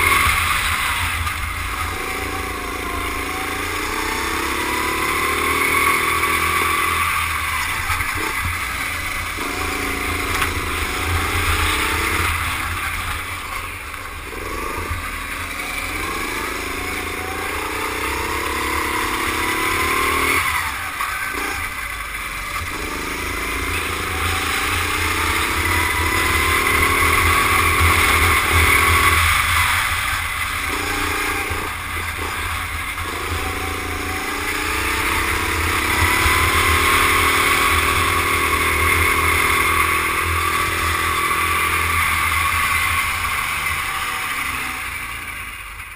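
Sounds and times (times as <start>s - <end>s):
go-kart engine accelerating: 0.0s - 45.9s.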